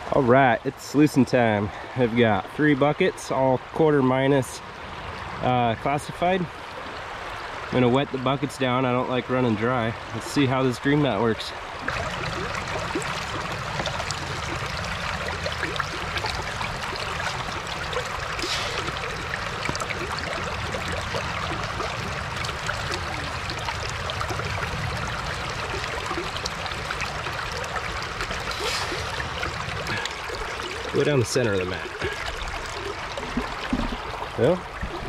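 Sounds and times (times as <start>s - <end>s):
water rushing through sluice box: 0.0s - 35.0s
water splashes: 0.0s - 35.0s.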